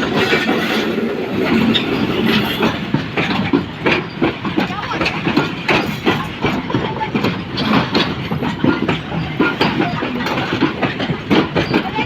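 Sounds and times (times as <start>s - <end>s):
train wheels clattering: 0.0s - 12.0s.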